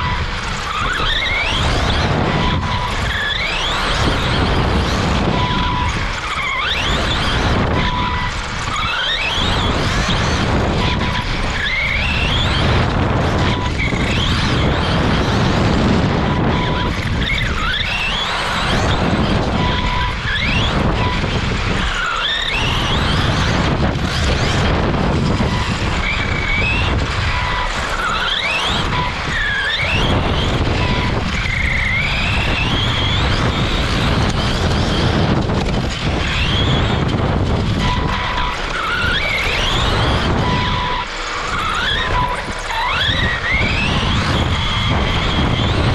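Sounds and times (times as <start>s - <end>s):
electric motor whine: 0.0s - 45.9s
tyres rattling on loose dirt: 0.0s - 45.9s.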